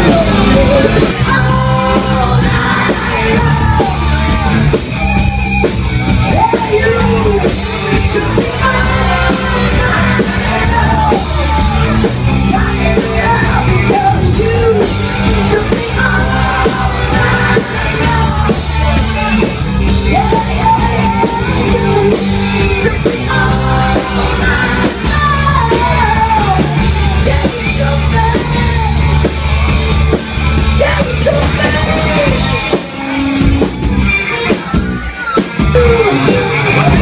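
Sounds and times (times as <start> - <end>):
person singing: 0.0 - 5.0, 6.1 - 29.4, 30.7 - 33.2, 34.4 - 37.0
bass line: 0.0 - 37.0
live band playing: 0.0 - 37.0.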